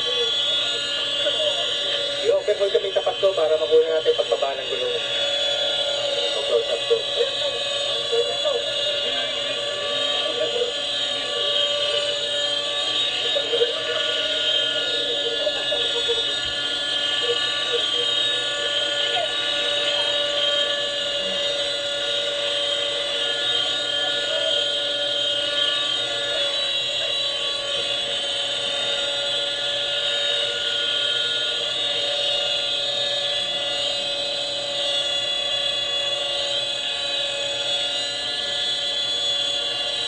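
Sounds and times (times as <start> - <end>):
helicopter turbine whining: 0.0 - 40.0
rotor noise: 0.0 - 40.0.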